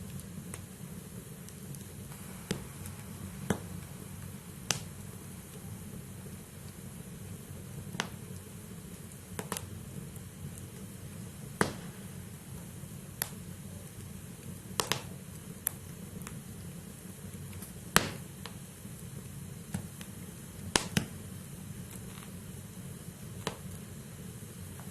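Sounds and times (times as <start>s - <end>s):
burning logs crackling and popping: 0.0s - 24.9s
low rumble of fire: 0.0s - 24.9s.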